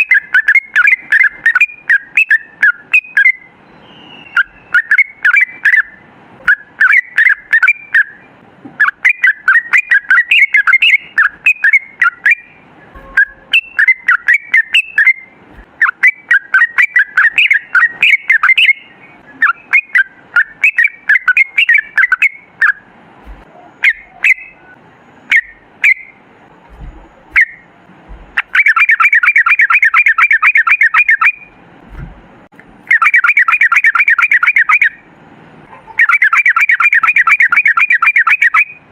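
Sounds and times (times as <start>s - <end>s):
bulbul chattering song: 0.0s - 31.9s, 32.5s - 38.9s.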